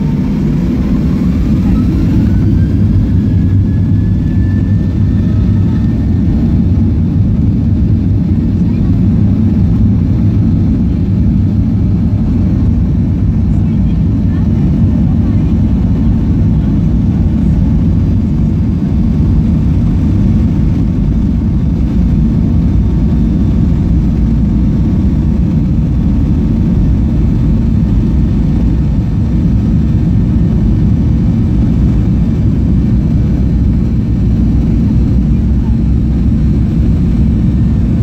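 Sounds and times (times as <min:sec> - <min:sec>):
airliner cabin low rumble: 0:00.0 - 0:38.0.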